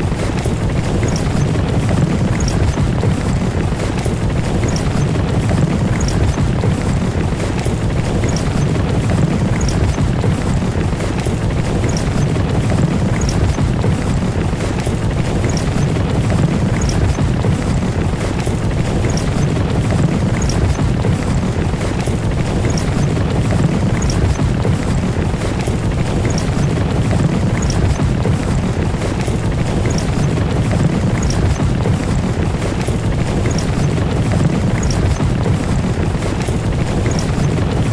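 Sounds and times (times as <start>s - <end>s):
carriage wheels rumbling: 0.0s - 37.9s
faint ticks: 0.2s - 37.9s.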